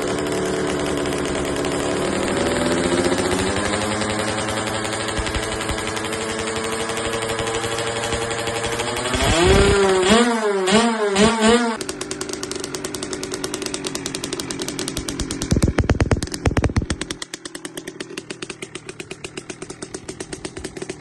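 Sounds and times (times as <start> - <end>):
dirt bike engine idling and revving: 0.0 - 21.0.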